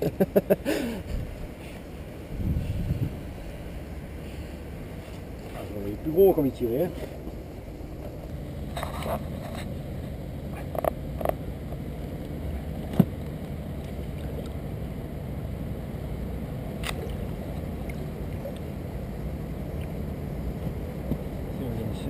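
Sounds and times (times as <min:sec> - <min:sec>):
water and wind rumble: 0:00.0 - 0:22.0.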